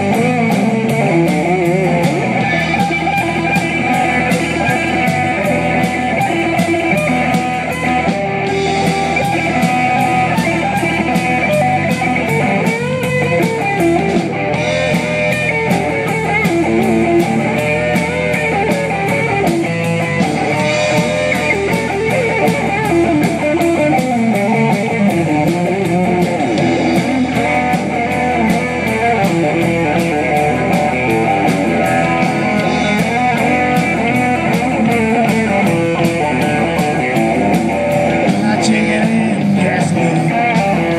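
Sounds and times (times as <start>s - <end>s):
guitar: 0.0s - 40.9s
rock band playing: 0.0s - 40.9s.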